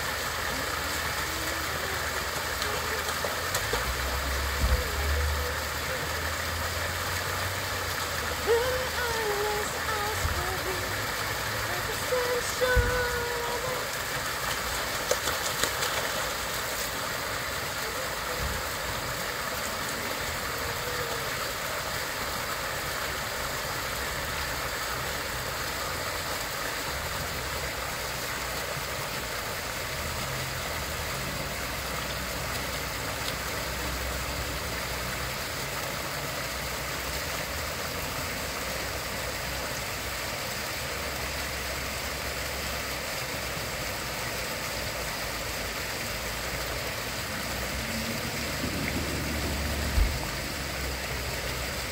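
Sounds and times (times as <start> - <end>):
fountain water splashing: 0.0 - 51.9.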